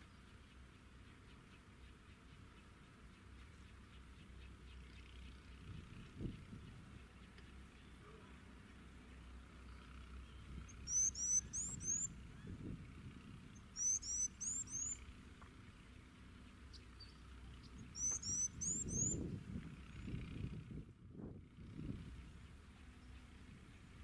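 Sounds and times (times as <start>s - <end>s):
songbird chirping: 0.0s - 20.4s
low background rumble: 0.0s - 24.0s.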